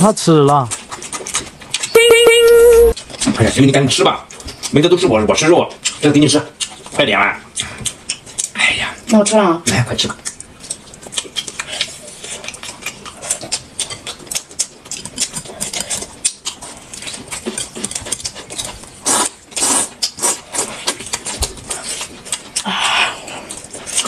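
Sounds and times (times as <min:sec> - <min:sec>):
people chewing and mouth smacks: 0:00.1 - 0:02.0, 0:02.9 - 0:24.0.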